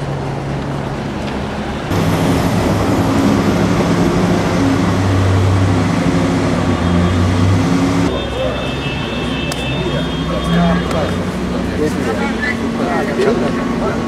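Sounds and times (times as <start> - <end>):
large vehicle engine humming: 0.0 - 14.0
street traffic: 0.0 - 14.0.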